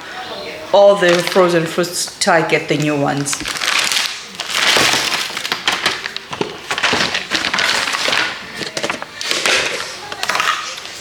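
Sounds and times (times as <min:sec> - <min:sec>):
frozen fruit clattering: 0:00.8 - 0:11.0
packet rustling: 0:00.8 - 0:11.0.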